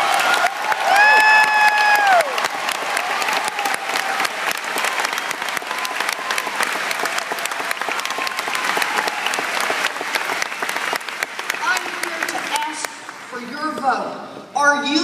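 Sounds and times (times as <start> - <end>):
voices cheering: 0.0 - 12.9
crowd applauding: 0.0 - 13.6.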